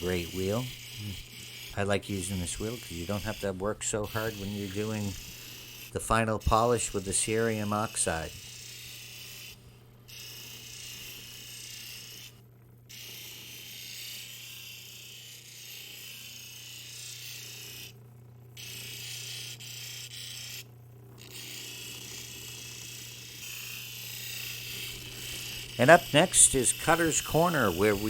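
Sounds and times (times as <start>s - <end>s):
stone hissing on polishing wheel: 0.0s - 17.9s, 21.2s - 28.0s
polishing machine motor hum: 0.0s - 18.0s, 18.6s - 28.0s.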